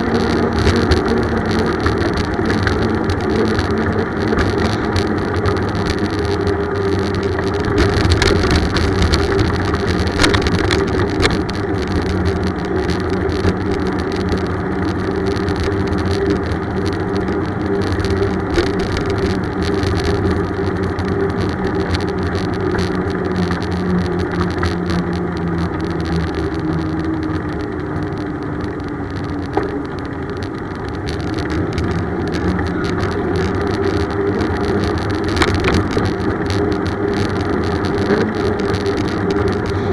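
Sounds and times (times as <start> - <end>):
bicycle road and wind noise: 0.0 - 39.9
passing motor traffic: 0.0 - 39.9.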